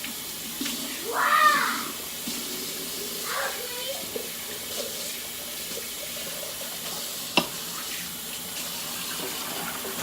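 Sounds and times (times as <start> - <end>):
faucet running into sink: 0.0 - 10.0.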